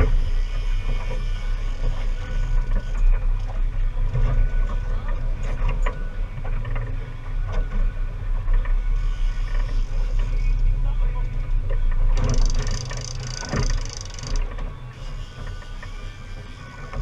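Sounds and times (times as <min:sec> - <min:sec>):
boat engine rumbling: 0:00.0 - 0:17.0
wind: 0:00.0 - 0:17.0.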